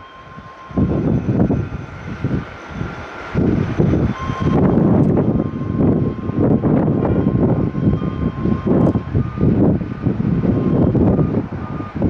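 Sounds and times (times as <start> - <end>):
faint steady whine: 0.0 - 12.0
jet engines rumbling: 0.0 - 12.0
wind buffeting microphone: 0.0 - 12.0.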